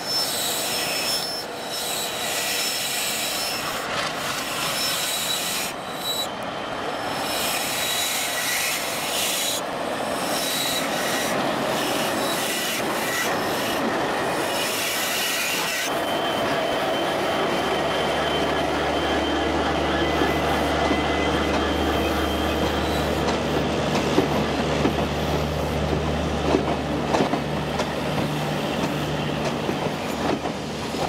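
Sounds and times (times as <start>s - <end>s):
train wheels squealing on rails: 0.0s - 25.9s, 26.5s - 31.0s.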